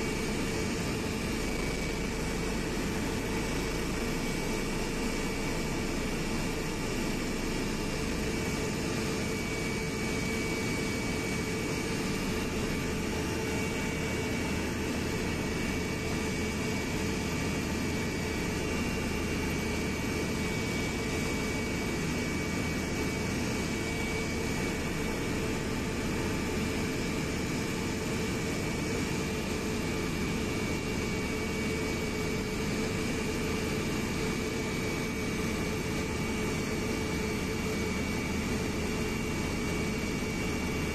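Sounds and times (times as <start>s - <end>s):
airliner cabin drone: 0.0s - 40.9s
faint steady whines: 0.0s - 40.9s.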